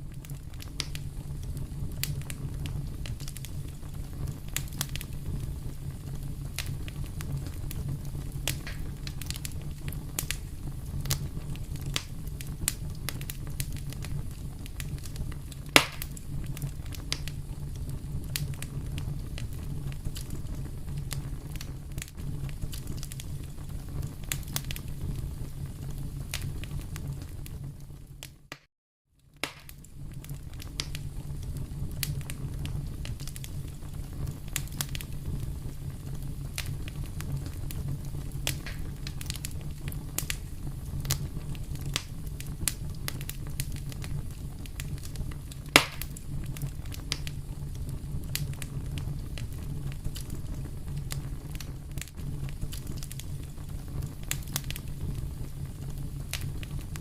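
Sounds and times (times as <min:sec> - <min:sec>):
fire crackling and popping: 0:00.0 - 0:28.6, 0:29.2 - 0:57.0.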